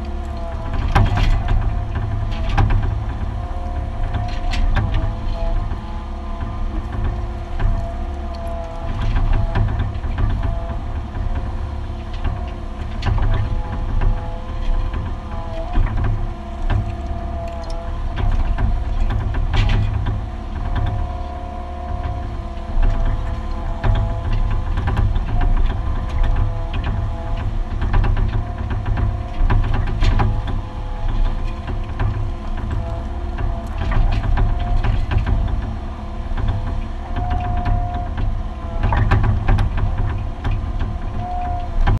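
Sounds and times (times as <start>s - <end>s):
excavator engine running: 0.0s - 41.9s
hydraulics whining: 0.0s - 41.9s
machine knocks and rattles: 0.0s - 41.9s.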